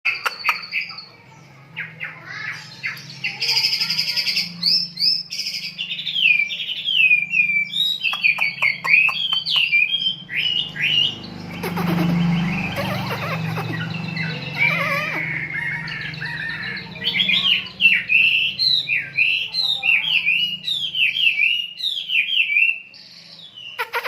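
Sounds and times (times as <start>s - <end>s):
lovebird chirping and trilling: 0.1s - 24.0s.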